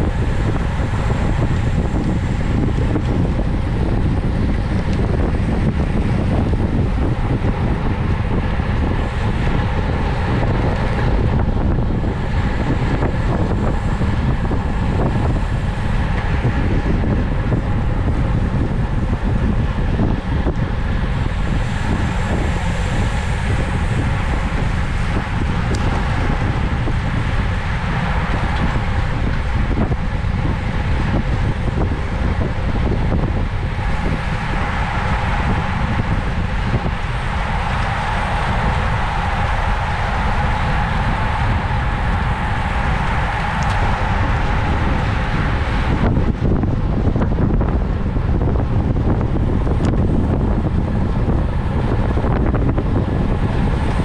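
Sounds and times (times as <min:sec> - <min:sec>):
road and tyre noise: 0:00.0 - 0:54.0
wind buffeting microphone: 0:00.0 - 0:54.0.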